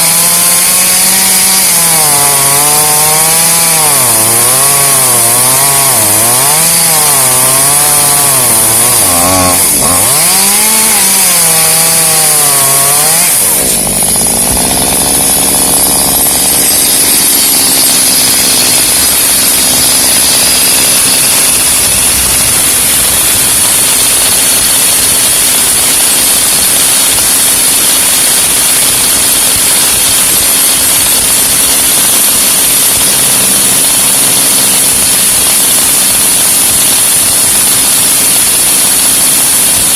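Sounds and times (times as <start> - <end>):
chainsaw cutting wood: 0.0 - 39.9
chainsaw engine running steadily: 0.0 - 39.9.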